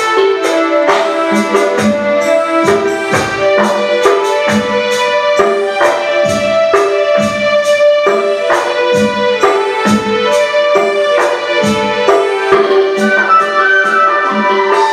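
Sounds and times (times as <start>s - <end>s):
held melody notes: 0.0s - 14.9s
steady percussion beat: 0.0s - 14.9s.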